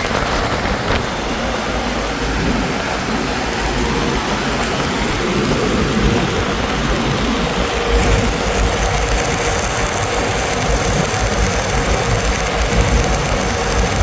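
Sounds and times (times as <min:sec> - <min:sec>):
large engine throbbing: 0:00.0 - 0:14.0.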